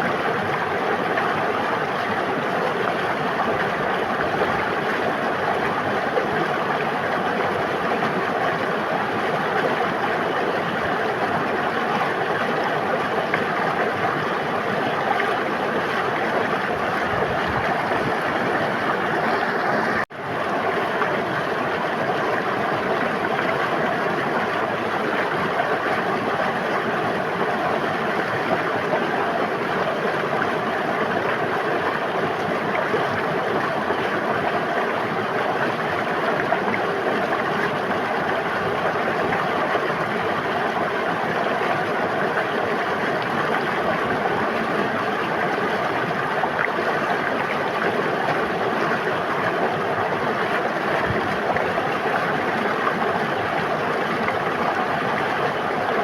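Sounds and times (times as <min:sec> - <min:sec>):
river flowing: 0:00.1 - 0:56.0.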